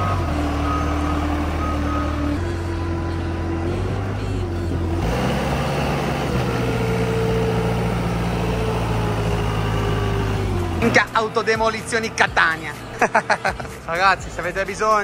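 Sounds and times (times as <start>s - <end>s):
large vehicle engine whining: 0.0s - 15.0s.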